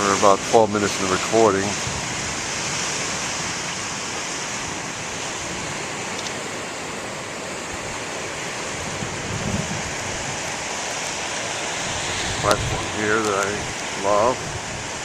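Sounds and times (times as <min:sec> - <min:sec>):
surf breaking and washing ashore: 0:00.0 - 0:15.0
wind on microphone: 0:00.0 - 0:15.0.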